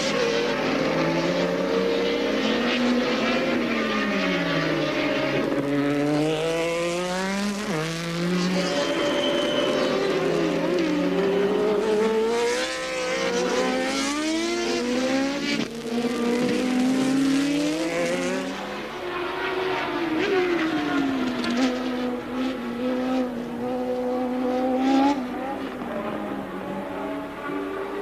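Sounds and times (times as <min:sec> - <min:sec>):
racing car engines: 0:00.0 - 0:28.0.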